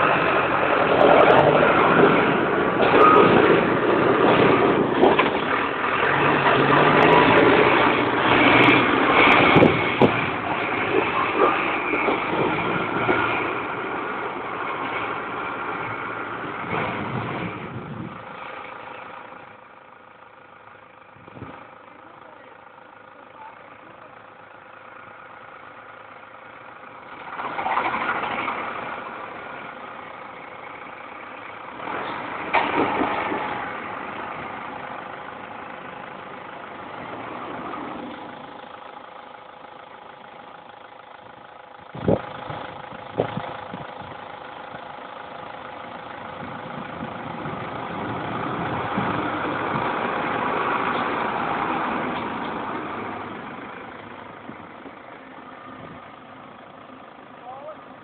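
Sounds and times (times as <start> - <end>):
tractor engine revving: 0.0 - 58.0.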